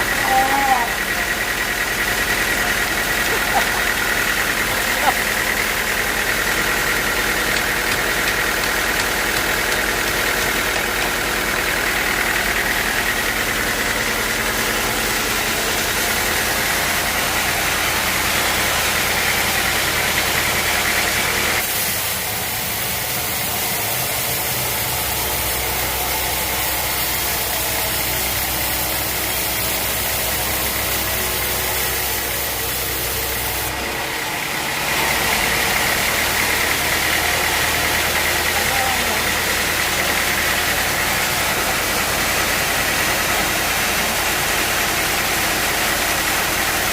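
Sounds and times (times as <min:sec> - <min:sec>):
sawmill machinery droning: 0:00.0 - 0:46.9.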